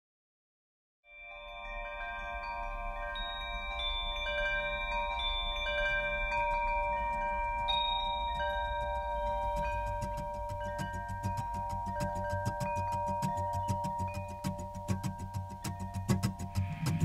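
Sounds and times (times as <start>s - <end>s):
wind chimes ringing: 1.1s - 17.0s.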